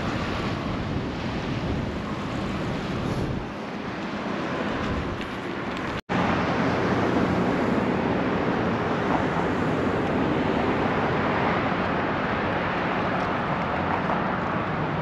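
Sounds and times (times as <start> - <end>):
river roaring over falls: 0.0 - 15.0.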